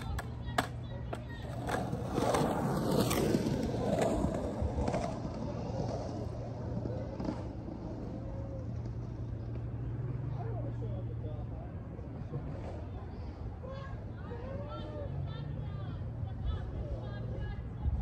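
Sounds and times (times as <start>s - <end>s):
skateboard wheels rolling on concrete: 0.0s - 18.0s.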